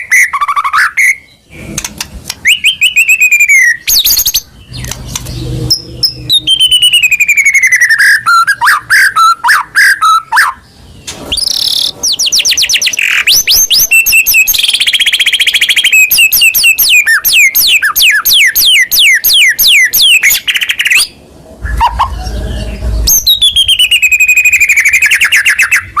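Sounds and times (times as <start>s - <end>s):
bird singing whistles and trills: 0.0s - 1.6s, 2.4s - 26.0s.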